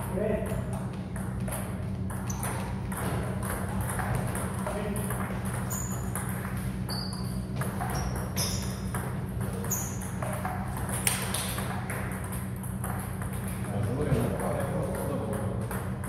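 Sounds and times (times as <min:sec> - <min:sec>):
steady low hum: 0:00.0 - 0:16.0
table tennis ball pings: 0:01.1 - 0:16.0.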